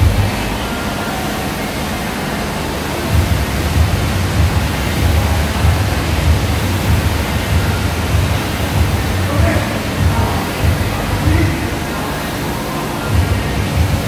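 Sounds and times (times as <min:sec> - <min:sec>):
low rumble: 0:00.0 - 0:12.1
rowing machine fan whooshing: 0:00.0 - 0:14.0.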